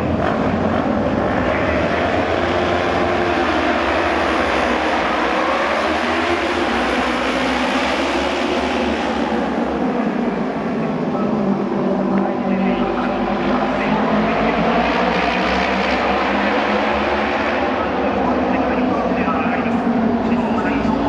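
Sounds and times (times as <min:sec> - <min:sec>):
racing motorcycle engines: 0:00.0 - 0:21.0.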